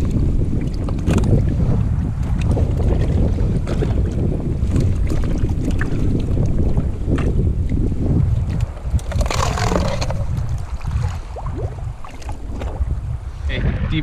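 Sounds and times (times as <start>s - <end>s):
water slapping kayak hull: 0.0s - 13.9s
wind buffeting microphone: 0.0s - 14.0s.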